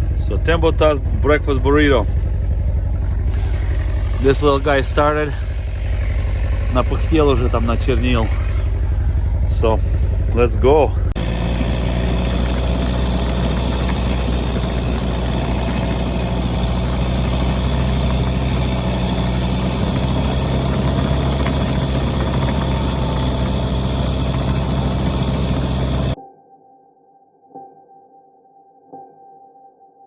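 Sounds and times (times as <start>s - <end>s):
diesel engine running steadily: 0.0s - 26.2s.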